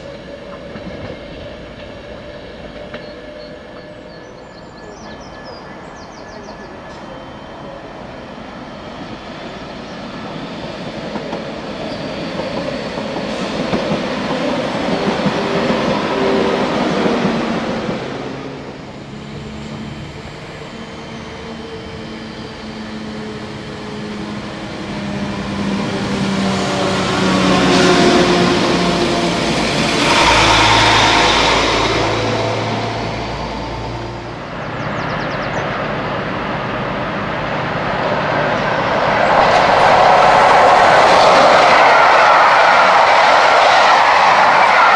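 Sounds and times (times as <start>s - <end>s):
train drive hum: 0.0s - 44.9s.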